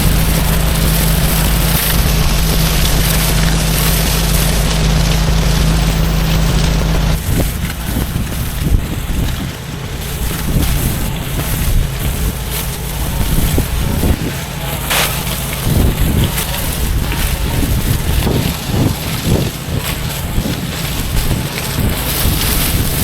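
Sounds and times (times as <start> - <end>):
pressure washer engine drone: 0.0 - 23.0
rough rushing water spray: 0.0 - 23.0.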